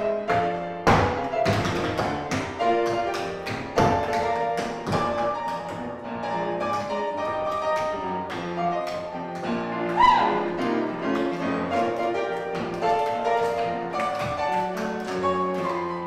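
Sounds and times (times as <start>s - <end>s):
swing piano: 0.0s - 16.0s
tap-dance steps clicking: 0.1s - 16.0s.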